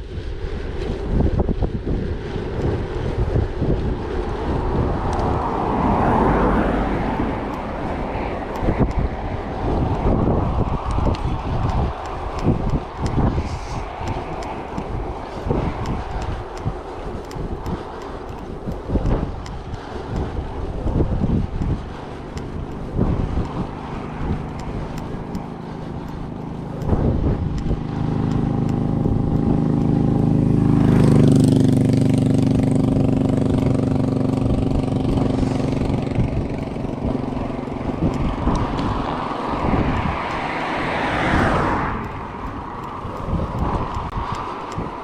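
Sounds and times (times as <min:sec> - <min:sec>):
bike tyre rumble: 0:00.0 - 0:45.0
motor vehicle passing: 0:00.0 - 0:45.0
wind noise: 0:00.0 - 0:45.0
tyre noise of another vehicle: 0:02.6 - 0:45.0.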